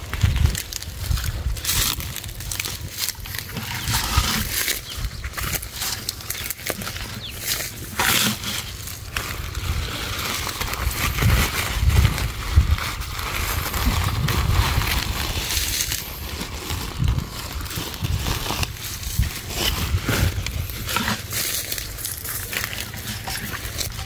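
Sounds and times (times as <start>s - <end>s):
leaves rustling and crunching: 0.0s - 24.0s
low microphone rumble: 0.0s - 24.0s.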